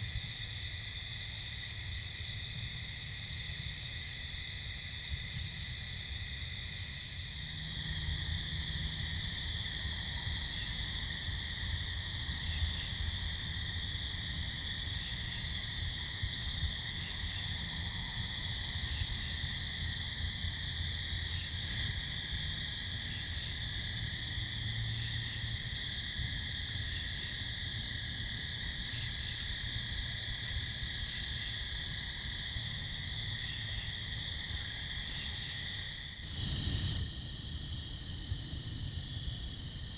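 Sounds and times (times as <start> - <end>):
crickets trilling: 0.0 - 39.9
faint insect chirps: 0.0 - 39.9.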